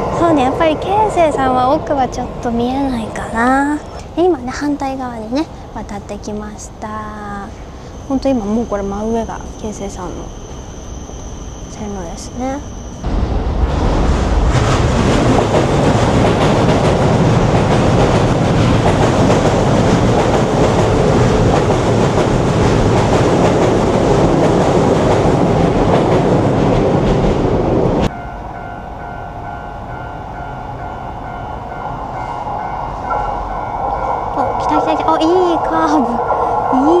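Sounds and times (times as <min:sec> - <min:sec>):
steady tones: 0:00.0 - 0:37.0
train wheels on rails: 0:00.0 - 0:37.0.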